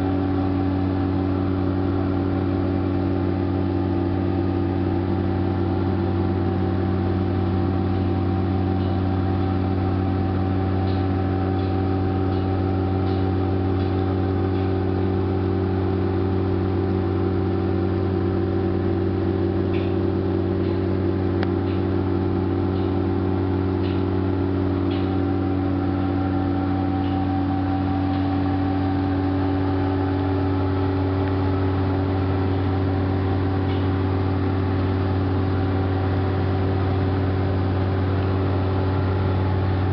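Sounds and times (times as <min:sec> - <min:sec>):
heavy engine droning: 0:00.0 - 0:39.9.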